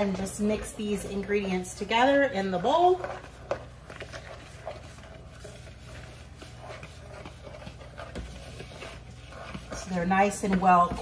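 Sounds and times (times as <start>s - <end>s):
fork scraping in bowl: 2.0s - 11.0s.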